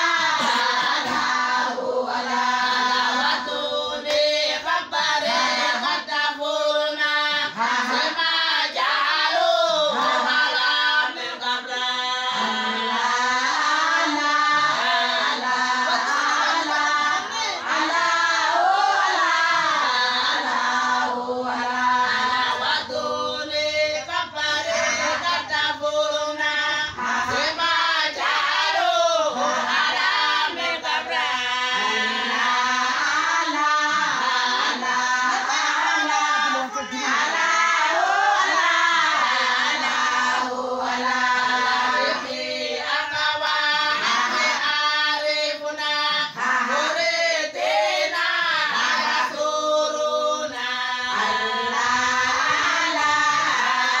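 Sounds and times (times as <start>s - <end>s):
women singing together: 0.0s - 54.0s.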